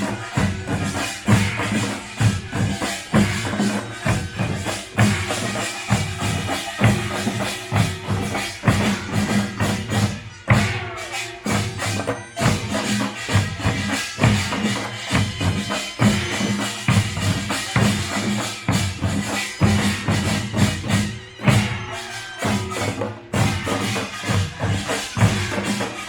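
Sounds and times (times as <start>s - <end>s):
drums: 0.0s - 26.0s.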